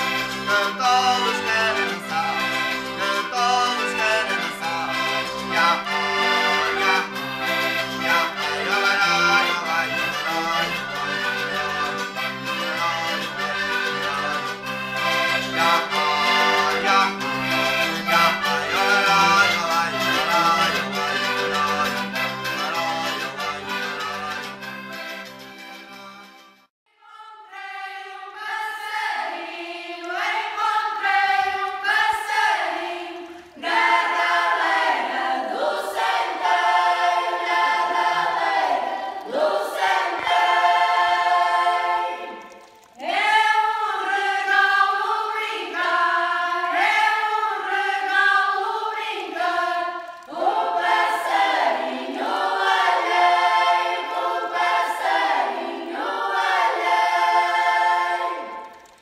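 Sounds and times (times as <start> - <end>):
choir singing a cappella: 0.0 - 21.5, 26.9 - 58.8.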